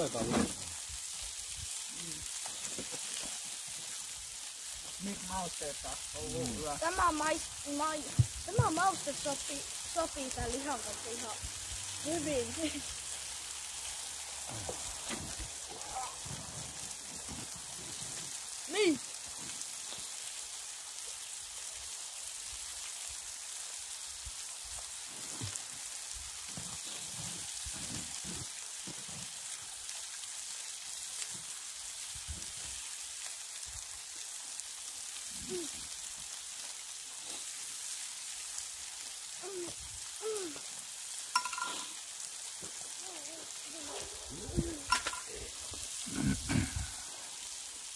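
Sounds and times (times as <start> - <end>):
steady hiss: 0.0 - 47.9.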